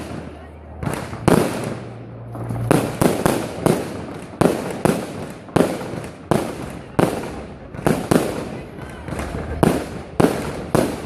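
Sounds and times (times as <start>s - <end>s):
fireworks bursting with bangs: 0.0s - 11.0s.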